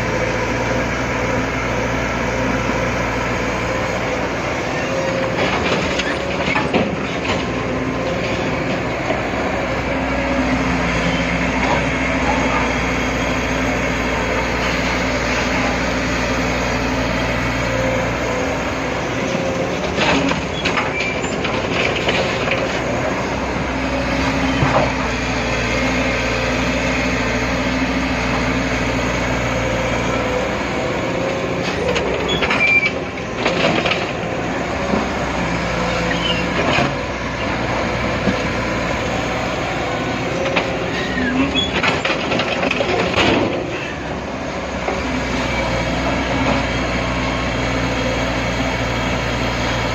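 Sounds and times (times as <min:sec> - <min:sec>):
excavator diesel engine under load: 0:00.0 - 0:49.9.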